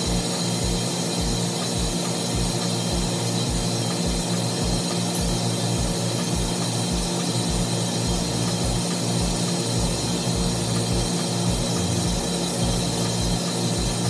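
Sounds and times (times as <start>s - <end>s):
low pulsing throb: 0.0s - 14.0s
machinery hum and hiss: 0.0s - 14.0s.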